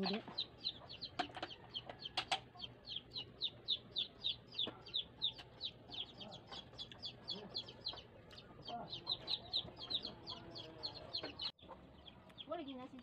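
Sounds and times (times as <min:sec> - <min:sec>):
bird peeping chirps: 0:00.0 - 0:13.0.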